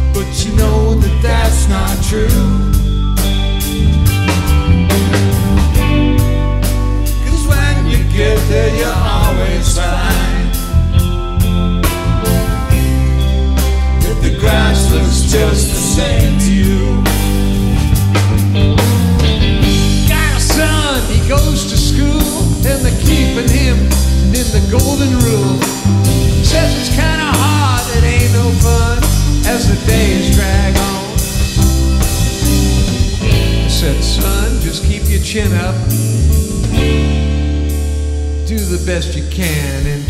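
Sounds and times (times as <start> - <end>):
bending wavering guitar lead line: 0.0 - 39.0
bass guitar: 0.0 - 40.0
drums: 0.0 - 40.0
electric guitar: 0.0 - 40.0
keyboards: 0.0 - 40.0.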